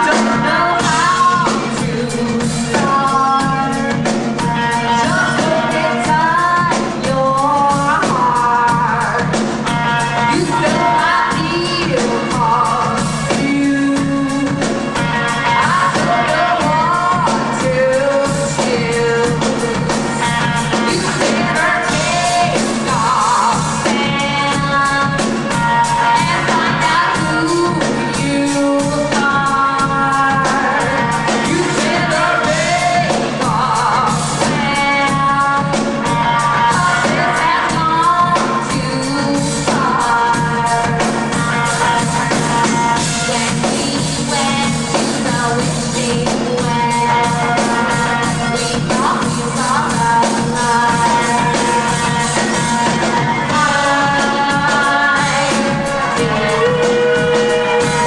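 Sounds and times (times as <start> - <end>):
rock band playing live: 0.0 - 58.0
steady drum beat: 0.0 - 58.0
woman singing: 0.0 - 58.0.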